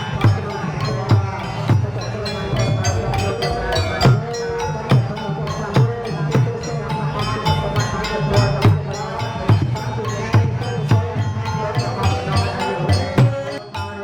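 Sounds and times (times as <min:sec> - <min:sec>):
drums beating: 0:00.0 - 0:14.0
ringing bell-like metal tones: 0:00.0 - 0:14.0.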